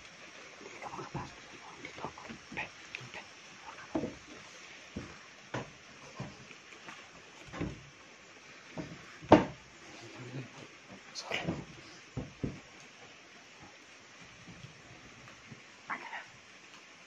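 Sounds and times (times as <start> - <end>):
soft knocks and thumps: 0.8 - 9.9, 10.5 - 15.7.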